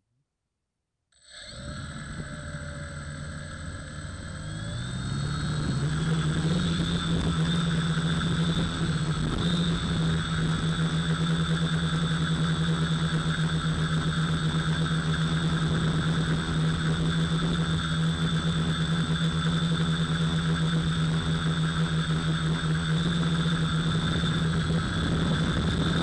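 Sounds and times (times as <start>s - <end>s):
quadcopter propellers buzzing: 1.5s - 26.0s.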